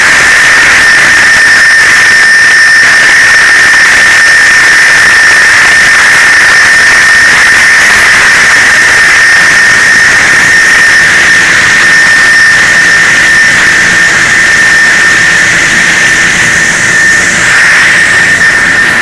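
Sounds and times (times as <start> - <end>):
milling machine high-pitched whine: 0.0 - 19.0.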